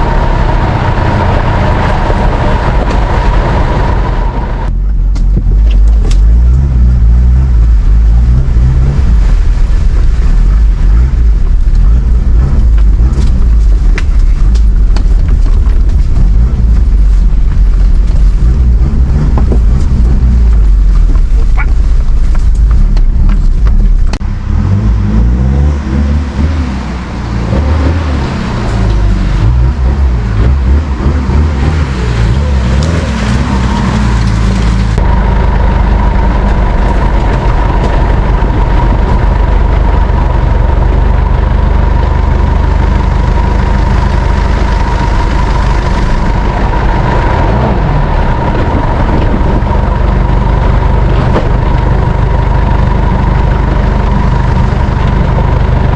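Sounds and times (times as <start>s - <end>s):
car engine rumble: 0.0s - 55.9s.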